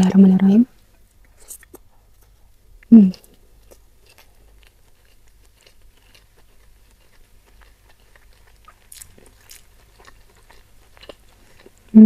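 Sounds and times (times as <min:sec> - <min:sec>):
chewing with mouth closed: 0:01.2 - 0:12.0
crisp chewing ticks: 0:01.2 - 0:12.0.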